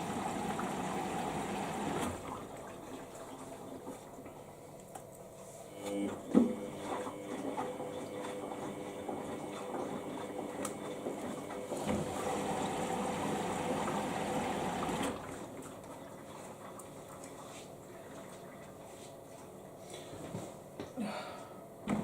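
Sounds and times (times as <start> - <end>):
water rushing into washing machine: 0.0 - 4.7, 5.7 - 19.7.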